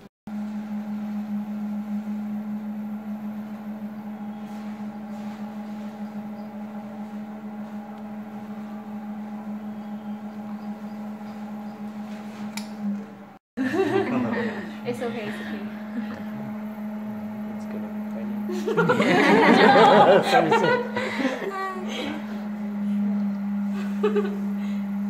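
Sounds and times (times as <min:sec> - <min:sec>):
pottery wheel motor humming: 0:00.0 - 0:25.0.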